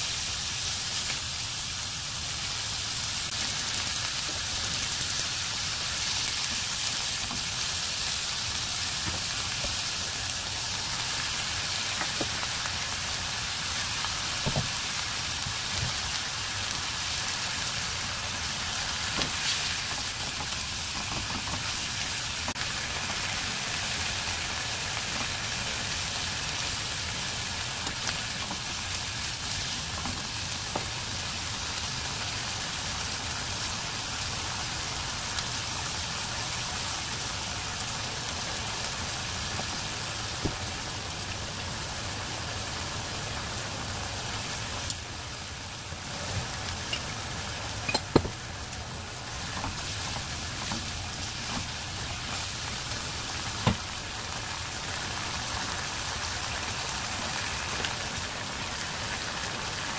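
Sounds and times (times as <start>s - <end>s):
beef and onion sizzling in a wok: 0.0s - 59.9s.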